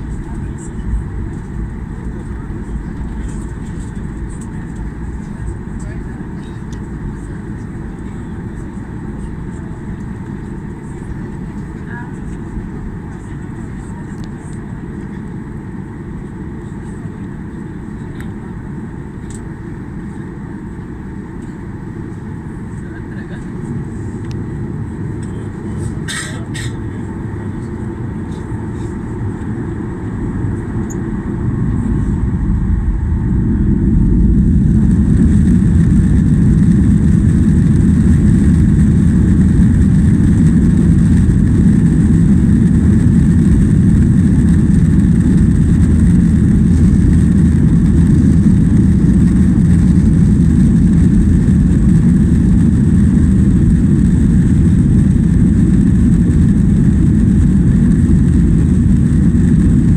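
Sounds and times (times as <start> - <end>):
jet engines roaring from cabin: 0.0 - 59.9.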